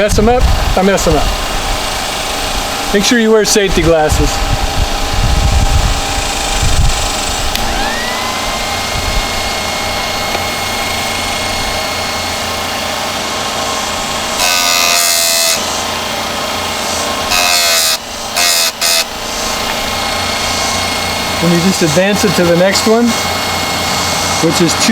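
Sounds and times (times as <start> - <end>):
grinding wheel on chain: 0.0 - 24.9
sharpener motor whine: 0.0 - 24.9.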